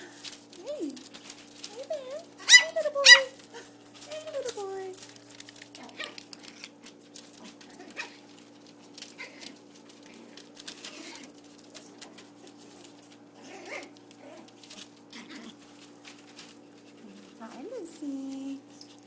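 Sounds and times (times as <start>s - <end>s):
small clicks and scuffles: 0.1s - 1.9s, 3.3s - 17.6s.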